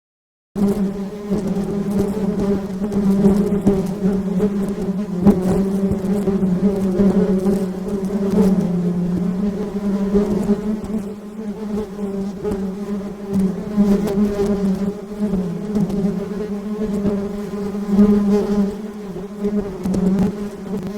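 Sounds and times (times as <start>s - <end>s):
bees buzzing: 0.6s - 20.9s.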